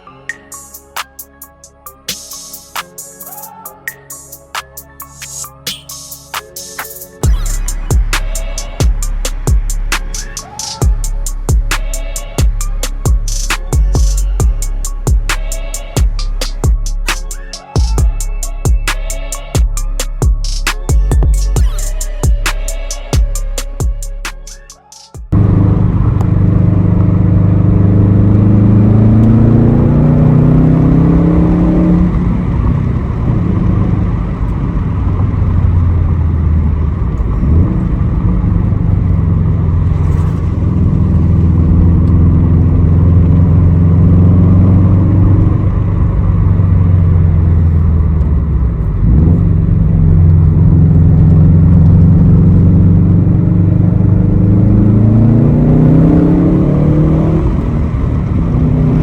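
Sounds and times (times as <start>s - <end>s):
car engine accelerating: 7.2s - 59.0s.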